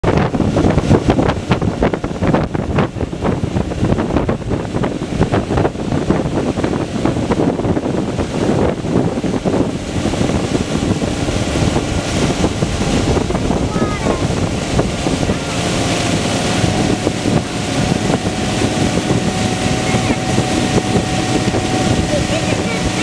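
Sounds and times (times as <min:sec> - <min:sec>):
water rushing past boat: 0:00.0 - 0:23.0
wind buffeting microphone: 0:00.0 - 0:23.0.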